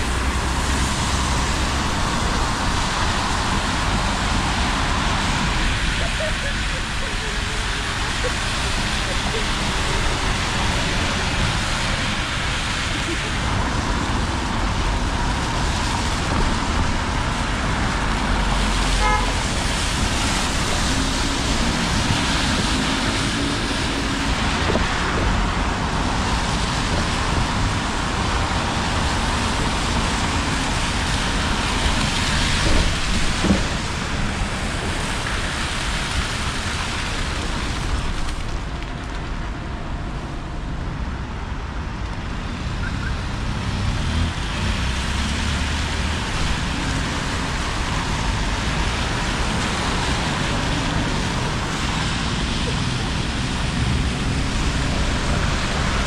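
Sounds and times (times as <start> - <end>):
cars and buses passing: 0.0 - 56.0
tyres hissing on wet road: 0.0 - 56.0.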